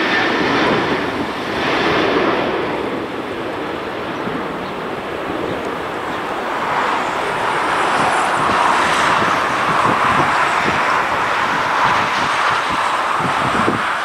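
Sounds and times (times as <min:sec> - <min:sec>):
jet engine noise: 0:00.0 - 0:14.0
wind buffeting microphone: 0:00.0 - 0:14.0.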